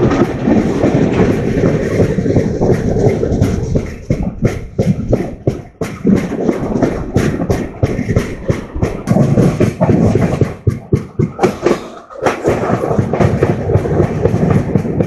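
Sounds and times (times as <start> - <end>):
rumble of train coach: 0.0 - 15.0
train wheels clattering over joints: 0.0 - 15.0.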